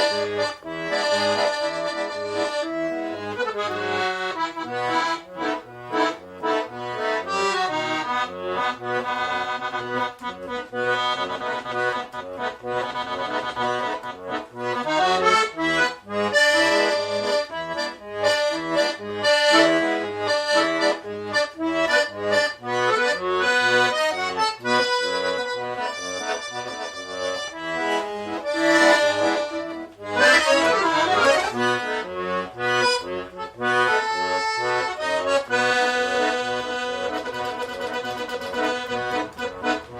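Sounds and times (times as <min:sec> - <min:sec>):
accordion playing lively tune: 0:00.0 - 0:39.9.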